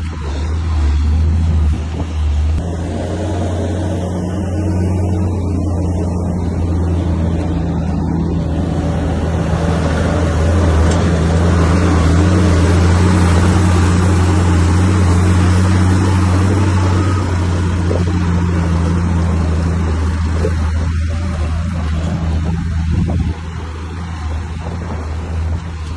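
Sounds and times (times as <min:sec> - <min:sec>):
bulldozer diesel engine running: 0:00.0 - 0:25.9.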